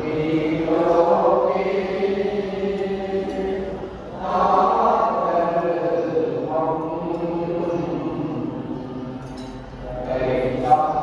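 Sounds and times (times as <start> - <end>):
many voices chanting in unison: 0.0 - 11.0.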